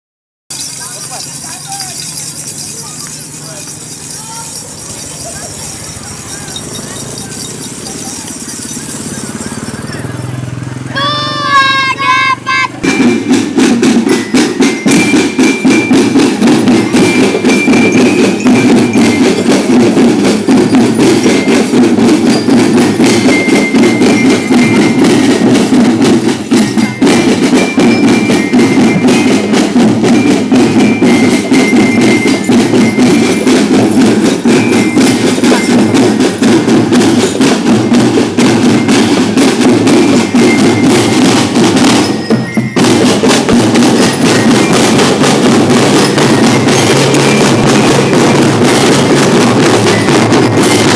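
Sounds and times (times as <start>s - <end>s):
glockenspiel melody: 0.5s - 11.5s, 12.8s - 50.9s
drum band playing a march: 0.5s - 50.9s.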